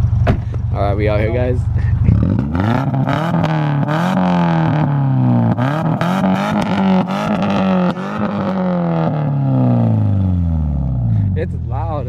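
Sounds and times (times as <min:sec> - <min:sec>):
car engine revving loudly: 0:01.1 - 0:11.6.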